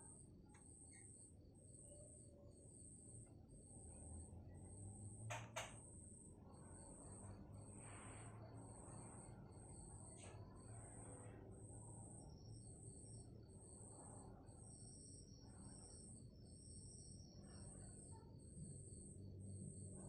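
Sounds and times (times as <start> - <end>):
faint high-pitched chirps: 0.0 - 20.0.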